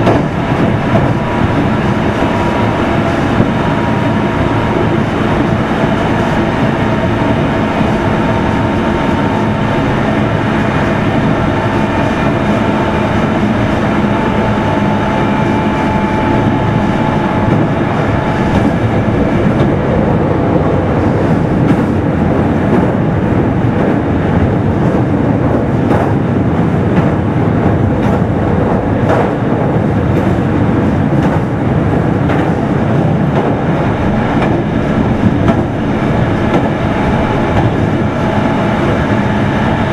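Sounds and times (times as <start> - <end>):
train wheels rumbling on rails: 0.0 - 39.9
wheels clacking over rail joints: 0.0 - 39.9.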